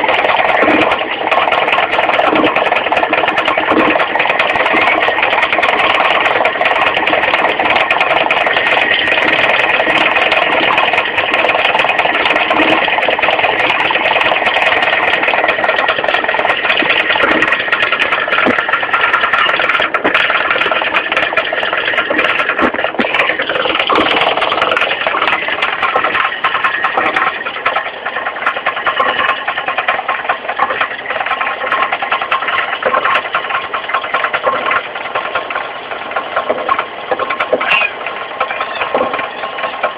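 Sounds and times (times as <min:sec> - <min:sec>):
car engine running: 0:00.0 - 0:39.9
rapid ticking clatter: 0:00.0 - 0:39.9.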